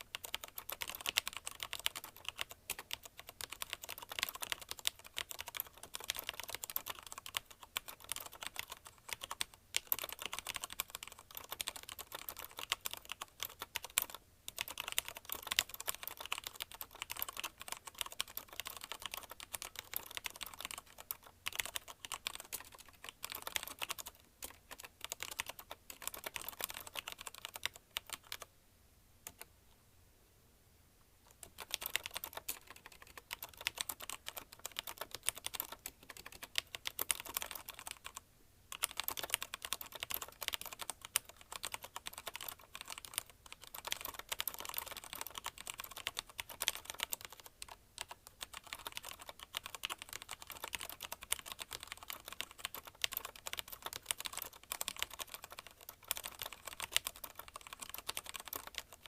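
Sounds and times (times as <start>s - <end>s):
mechanical keyboard typing: 0.0s - 28.5s, 29.2s - 29.5s, 31.3s - 59.0s.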